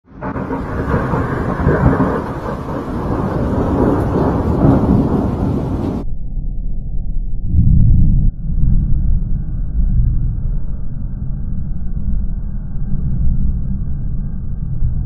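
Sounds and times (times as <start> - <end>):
thunder rumbling: 0.1 - 6.1, 7.1 - 15.0.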